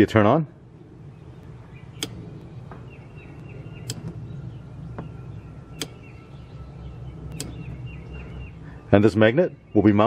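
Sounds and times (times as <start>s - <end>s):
steady low hum: 0.0s - 10.0s
high chirps: 1.0s - 10.0s.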